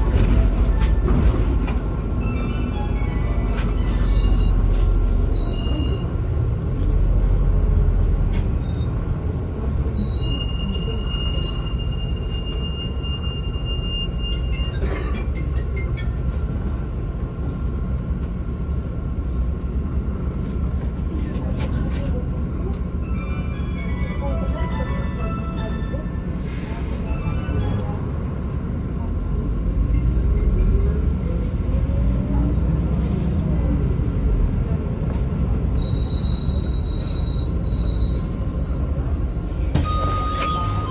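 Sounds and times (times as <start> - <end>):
bus cabin rumble: 0.0 - 40.9.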